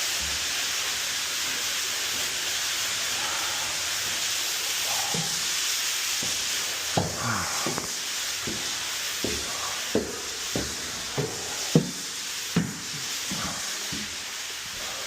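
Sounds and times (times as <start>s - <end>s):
water spraying from pipe: 0.0s - 15.0s.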